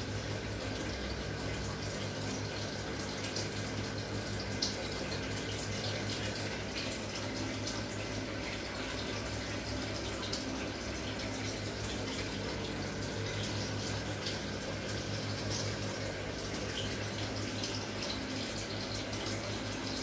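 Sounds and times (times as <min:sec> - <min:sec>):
aquarium filter bubbling: 0:00.0 - 0:20.0
water trickling: 0:00.0 - 0:20.0.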